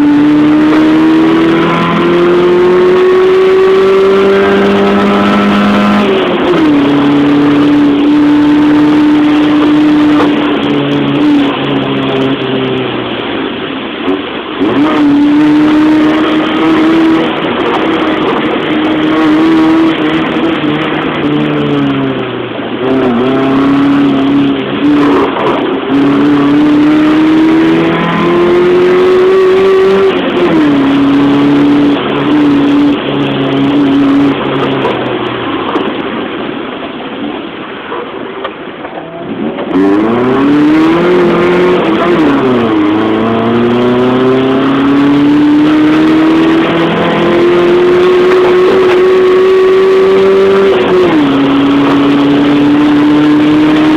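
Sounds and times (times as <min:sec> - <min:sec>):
car engine accelerating: 0:00.0 - 0:37.6, 0:38.8 - 0:53.9.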